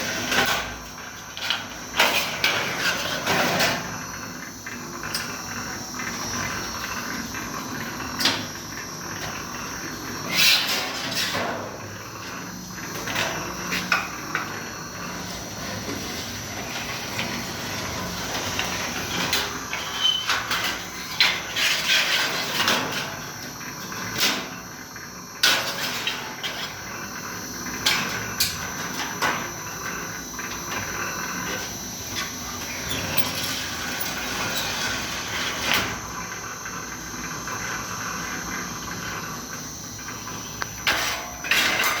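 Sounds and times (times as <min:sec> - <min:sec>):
metal cutting machine running: 0:00.0 - 0:21.4, 0:26.1 - 0:42.0.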